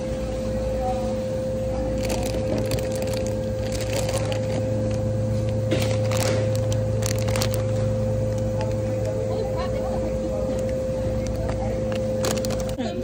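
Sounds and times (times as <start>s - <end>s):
low supermarket drone: 0.0s - 13.0s.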